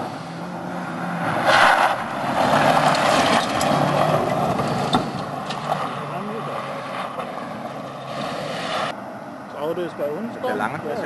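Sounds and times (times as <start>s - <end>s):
rally car engine at full throttle: 0.0s - 9.0s.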